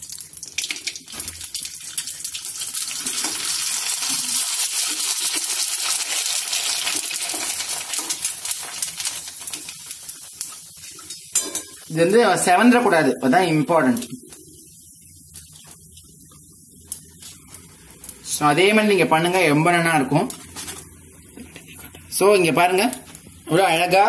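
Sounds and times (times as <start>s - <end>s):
crisps deep-frying in oil: 0.0s - 24.0s.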